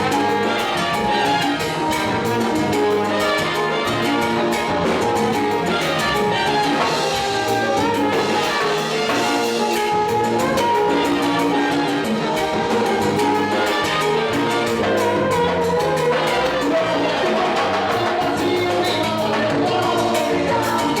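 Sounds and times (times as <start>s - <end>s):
salsa band with horns: 0.0s - 21.0s
steady percussion beat: 0.0s - 21.0s.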